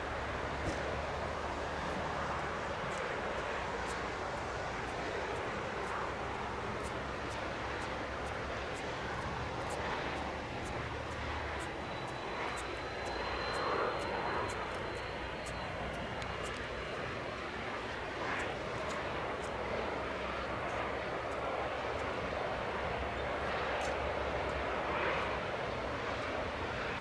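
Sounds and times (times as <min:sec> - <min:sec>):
faint high whine: 0:00.0 - 0:27.0
jet engines rumble and hiss: 0:00.0 - 0:27.0.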